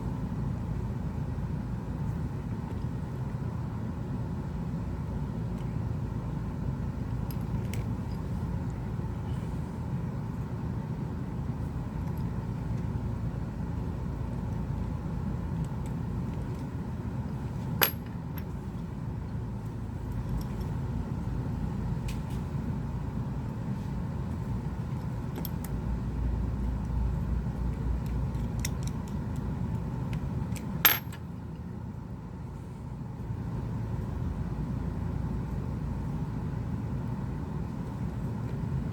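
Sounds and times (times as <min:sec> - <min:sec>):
low background rumble: 0:00.0 - 0:38.9.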